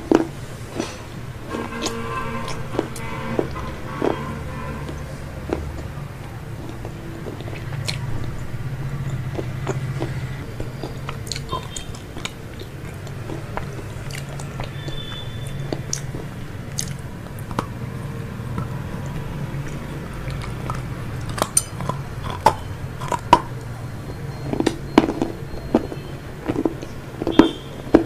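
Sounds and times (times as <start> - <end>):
steady low hum: 0.0 - 27.2
chewing and crunching food: 0.0 - 28.0.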